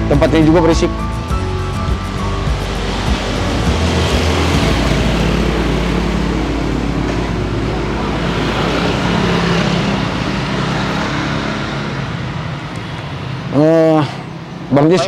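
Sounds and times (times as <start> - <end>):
road traffic passing close by: 0.0 - 15.0.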